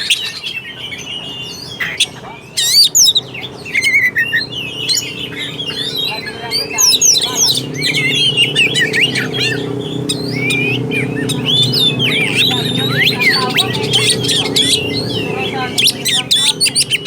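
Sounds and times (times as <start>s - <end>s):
bird singing whistles and chirps: 0.0s - 17.0s
low steady hum: 1.0s - 17.0s.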